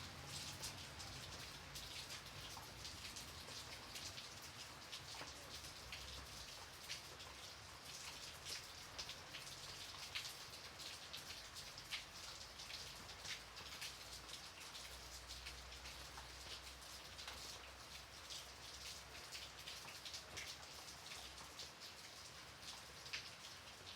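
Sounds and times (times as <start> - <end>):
light rain pattering: 0.0 - 23.9.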